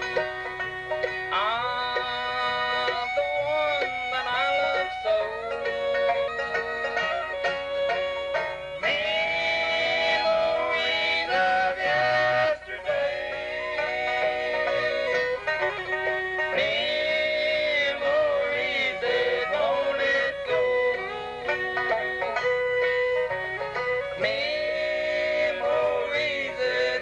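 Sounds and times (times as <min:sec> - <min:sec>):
bluegrass band playing: 0:00.0 - 0:27.0.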